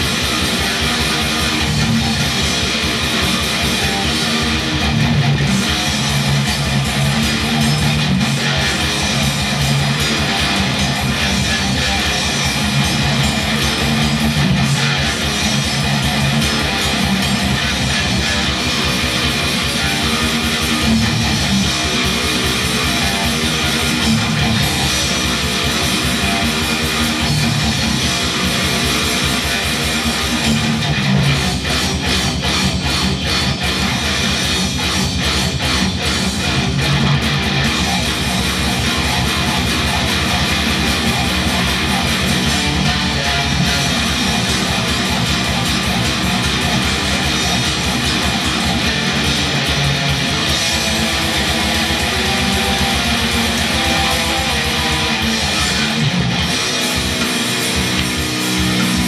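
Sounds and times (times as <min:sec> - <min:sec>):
distorted electric guitar riff: 0:00.0 - 0:59.0.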